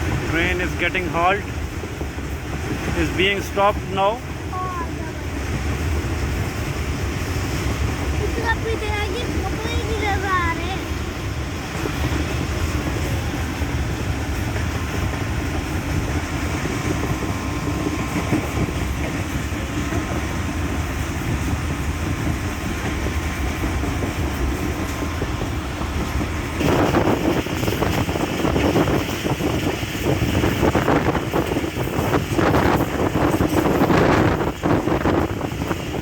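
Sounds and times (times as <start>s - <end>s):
train rattling clatter: 0.0s - 36.0s
train rumbling from on board: 0.0s - 36.0s.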